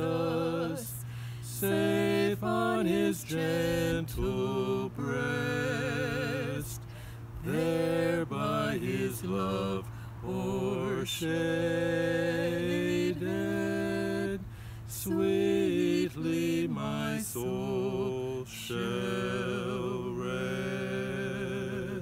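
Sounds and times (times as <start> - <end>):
man and woman singing a hymn: 0.0 - 22.0.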